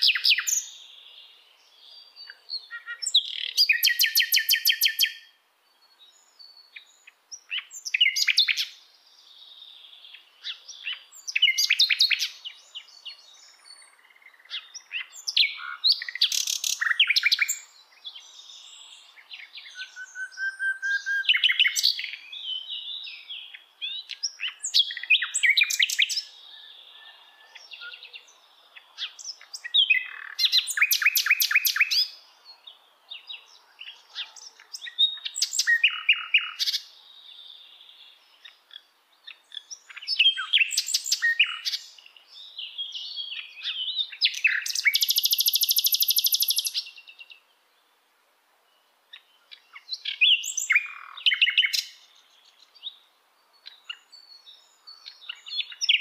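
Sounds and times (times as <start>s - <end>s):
nightingale singing: 0.0s - 48.0s, 48.6s - 56.0s.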